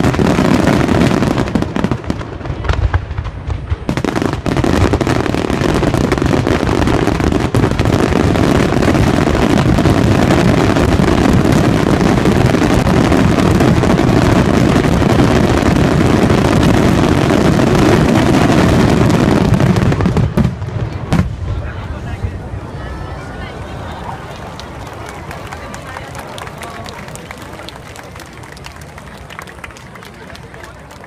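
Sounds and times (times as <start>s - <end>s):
fireworks exploding: 0.0s - 31.0s.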